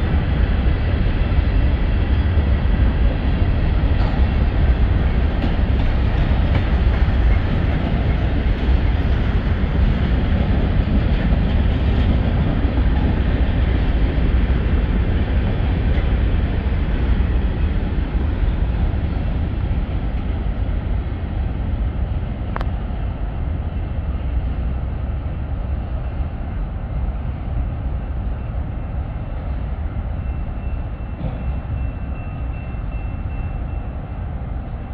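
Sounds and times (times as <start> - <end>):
train wheels rolling on rails: 0.0 - 34.9.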